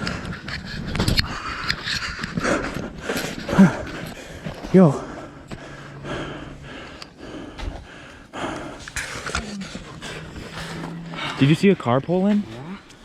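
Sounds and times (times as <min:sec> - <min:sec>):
person panting heavily: 0:00.0 - 0:11.5
low steady hum: 0:02.4 - 0:13.0.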